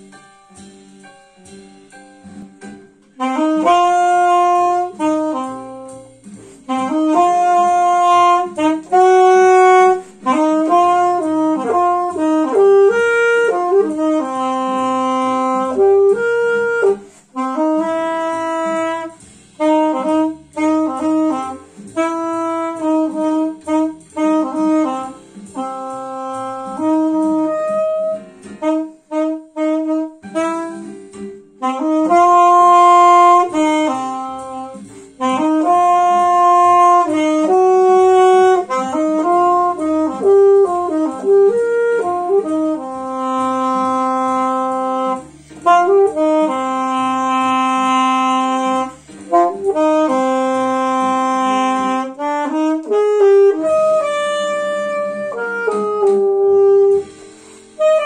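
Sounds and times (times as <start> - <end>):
alto saxophone jazz melody: 1.5 - 58.0.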